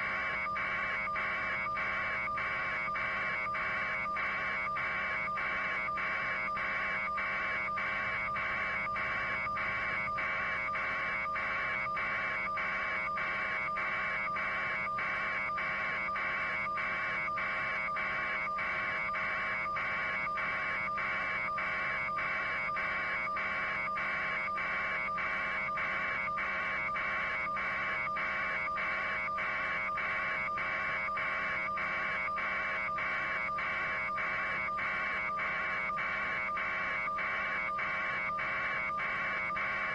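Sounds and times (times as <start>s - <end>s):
faint steady hums: 0.0s - 39.9s.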